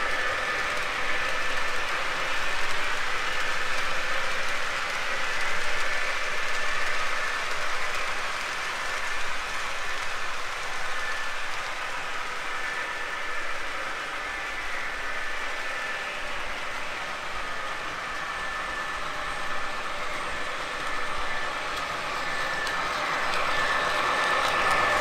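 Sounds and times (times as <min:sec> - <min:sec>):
model train running on track: 0:00.0 - 0:25.0.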